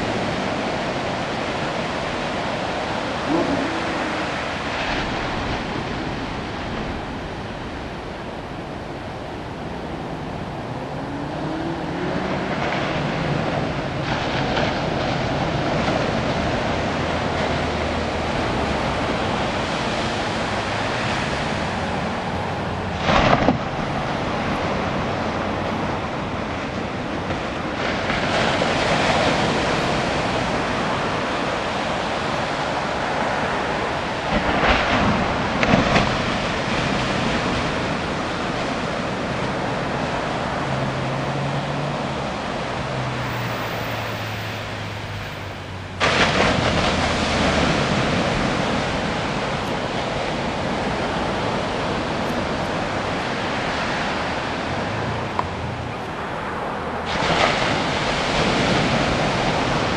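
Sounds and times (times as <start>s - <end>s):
waves breaking on sand: 0.0s - 59.9s.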